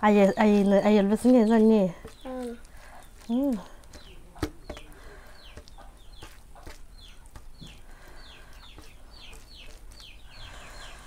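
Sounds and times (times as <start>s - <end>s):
birds cheeping: 0.0s - 11.0s.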